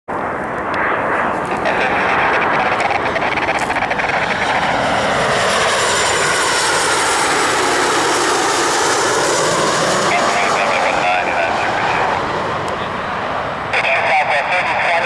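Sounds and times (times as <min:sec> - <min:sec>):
jet airliner flying low past: 0:00.1 - 0:15.0.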